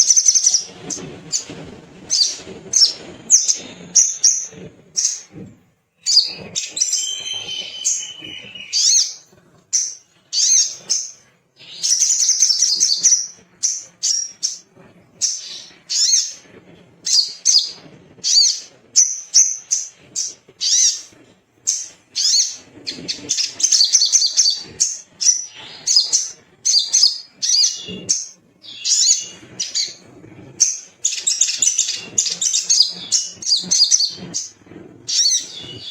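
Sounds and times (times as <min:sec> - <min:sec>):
songbird chirping and trilling: 0:00.0 - 0:05.2, 0:06.0 - 0:16.4, 0:17.0 - 0:30.0, 0:30.6 - 0:35.9.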